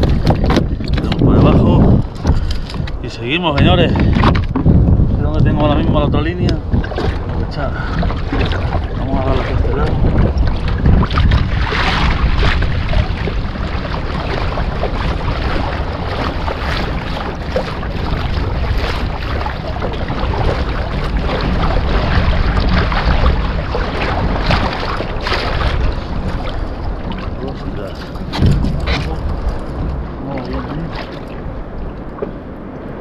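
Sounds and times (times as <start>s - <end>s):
water lapping around kayak: 0.0s - 33.0s
wind buffeting microphone: 0.0s - 33.0s.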